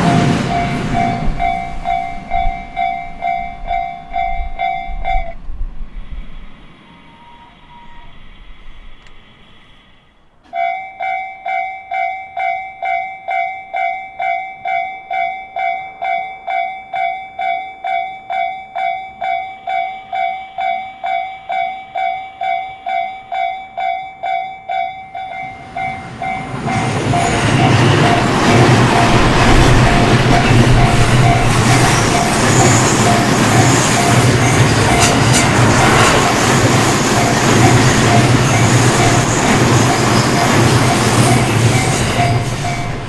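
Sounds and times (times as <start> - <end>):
level crossing bell ringing: 0.0 - 5.4, 10.6 - 43.0
train passing on rails: 0.0 - 43.0.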